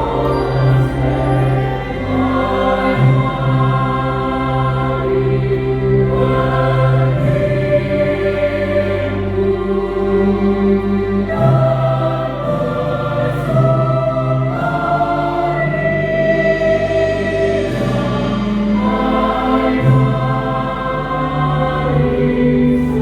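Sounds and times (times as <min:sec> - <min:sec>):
church choir singing a hymn: 0:00.0 - 0:23.0.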